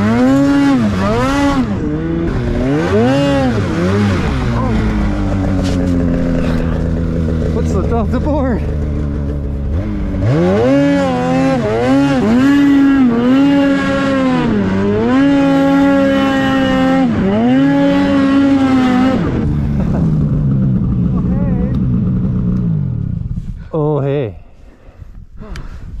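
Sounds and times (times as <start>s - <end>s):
snowmobile engine revving: 0.0s - 23.4s.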